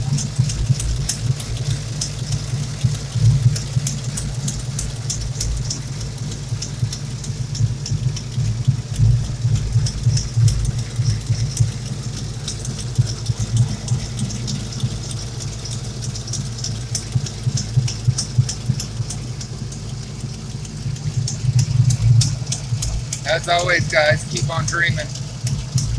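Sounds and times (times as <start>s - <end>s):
car engine idling: 0.0s - 25.9s
fast irregular sharp ticking: 0.0s - 25.9s.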